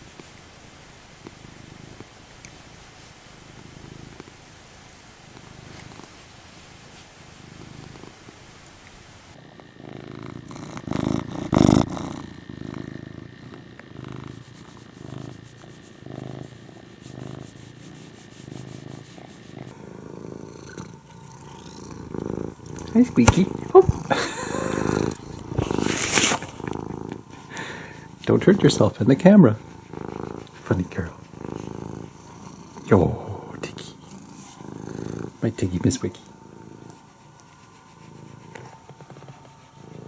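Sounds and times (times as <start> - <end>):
cats purring: 0.0 - 40.0.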